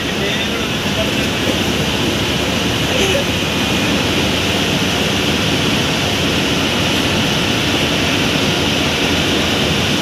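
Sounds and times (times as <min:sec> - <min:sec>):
diesel engine rumble: 0:00.0 - 0:10.0.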